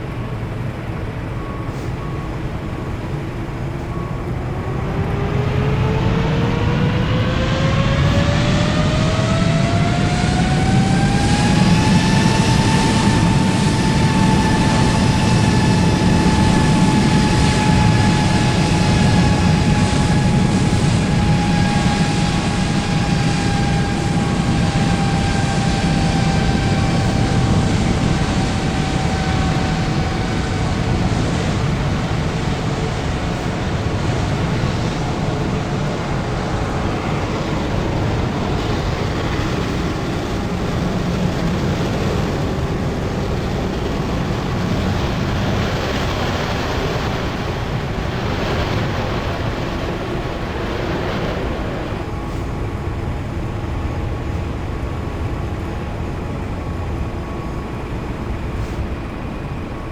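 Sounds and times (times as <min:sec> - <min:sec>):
jet engine whine: 0:00.0 - 0:59.9
low cabin rumble: 0:00.0 - 0:59.9.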